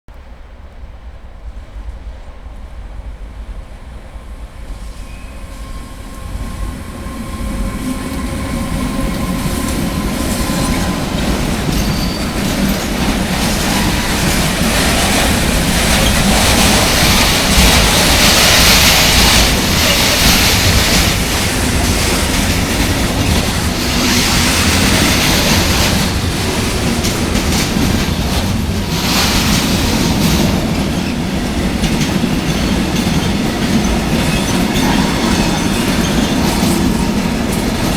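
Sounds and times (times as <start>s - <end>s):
freight train passing: 0.1s - 37.9s.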